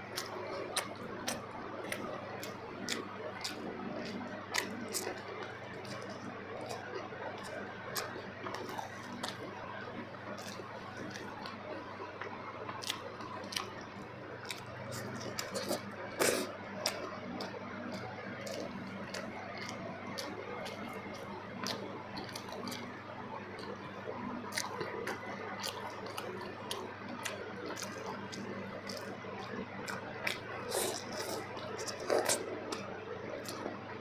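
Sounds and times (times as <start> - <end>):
person chewing wet food: 0.0 - 34.0.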